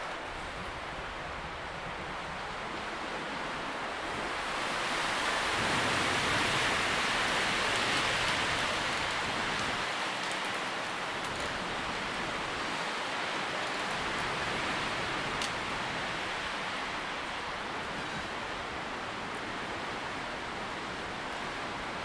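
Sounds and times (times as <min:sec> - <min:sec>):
wind rustling tree leaves: 0:00.0 - 0:22.0.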